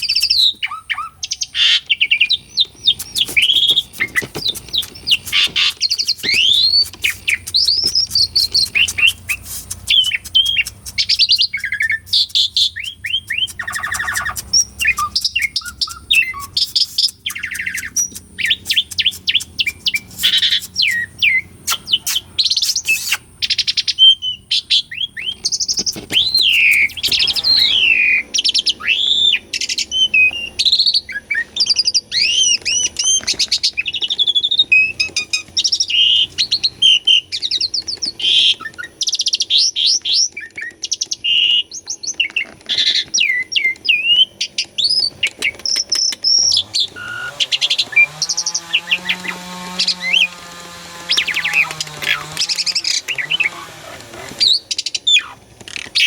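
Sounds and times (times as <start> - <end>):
starling singing: 0.0 - 38.8, 44.8 - 56.0.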